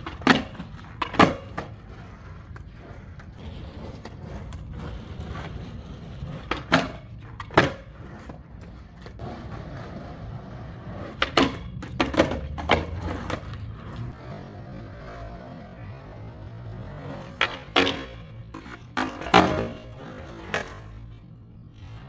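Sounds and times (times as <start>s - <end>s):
skateboard clacking on ground: 0.0s - 21.2s
skateboard wheels rolling on concrete: 0.0s - 22.0s.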